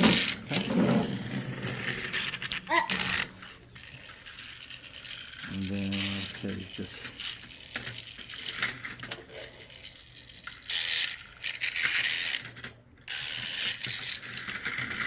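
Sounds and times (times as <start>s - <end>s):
toy motor and gears whirring: 0.0s - 15.0s.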